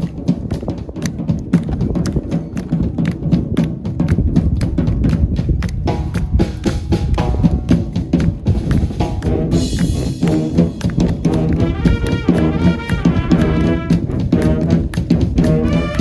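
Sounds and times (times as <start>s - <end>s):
brass instruments: 0.0s - 3.8s, 5.8s - 16.0s
snare and bass drums: 0.0s - 16.0s.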